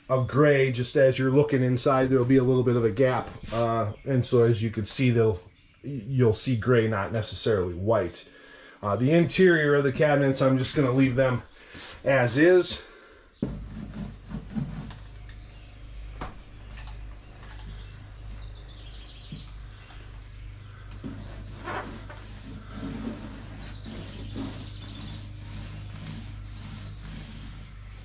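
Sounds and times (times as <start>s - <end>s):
birds chirping: 0.0s - 28.0s
steady low hum: 0.0s - 28.0s.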